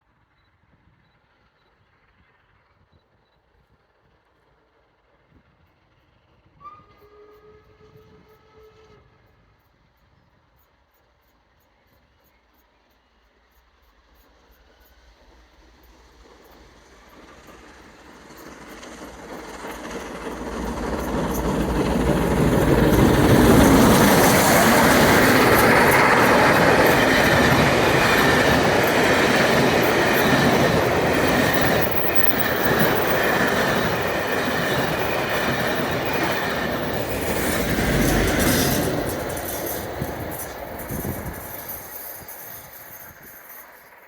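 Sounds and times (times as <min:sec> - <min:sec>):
steam train passing: 0:01.0 - 0:44.0.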